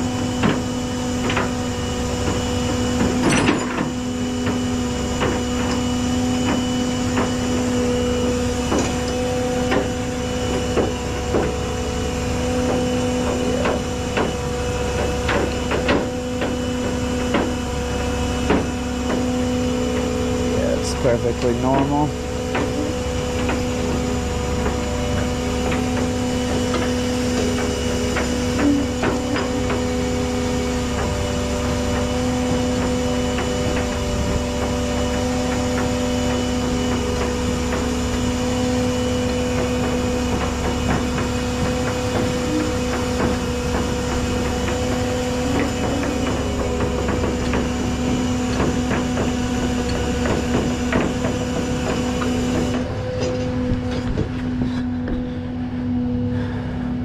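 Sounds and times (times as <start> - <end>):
truck engine humming: 0.0 - 57.0
winch pulling: 0.6 - 55.3.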